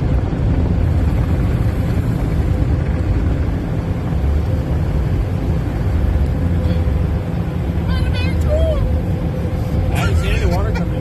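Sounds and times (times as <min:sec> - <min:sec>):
car wash machinery rumble: 0:00.0 - 0:11.0
faint steady whine: 0:00.0 - 0:11.0.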